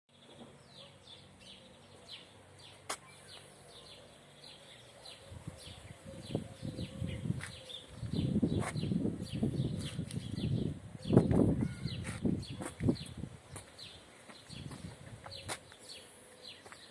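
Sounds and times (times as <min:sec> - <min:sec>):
birds chirping: 0:00.1 - 0:16.9.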